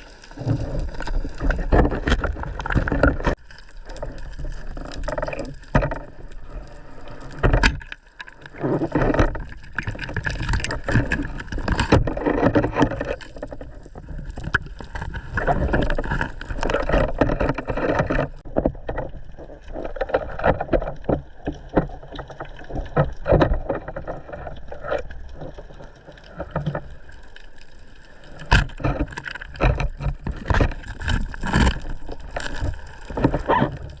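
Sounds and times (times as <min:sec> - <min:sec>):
water sloshing and splashing: 0:00.0 - 0:34.0.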